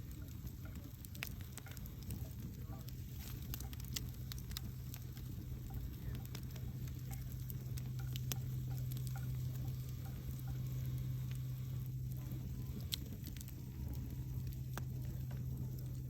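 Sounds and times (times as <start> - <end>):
campfire crackling and popping: 0.0 - 16.0
low rumble: 0.0 - 16.0.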